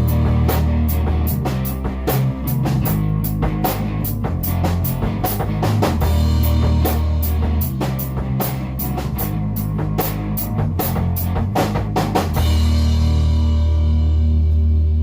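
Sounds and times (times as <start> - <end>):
rock music with drums and guitar: 0.0 - 15.0.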